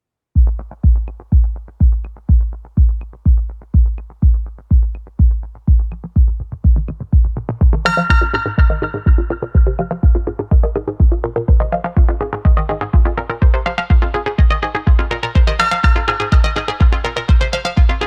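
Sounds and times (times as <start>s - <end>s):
heavy kick drum: 0.4s - 18.0s
synth chords: 0.4s - 18.0s.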